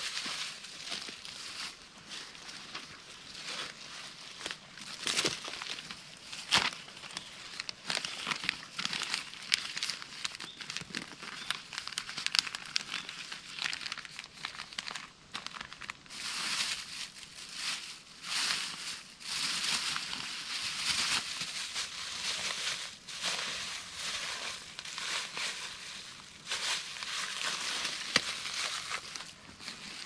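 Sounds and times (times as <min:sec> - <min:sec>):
plastic bag crinkling: 0:04.8 - 0:30.0.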